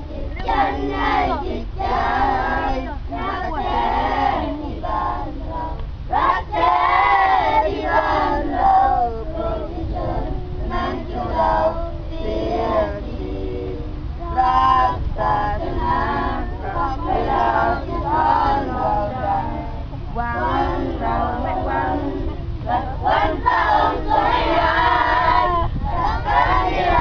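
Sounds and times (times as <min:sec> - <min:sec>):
group singing together: 0:00.0 - 0:27.0.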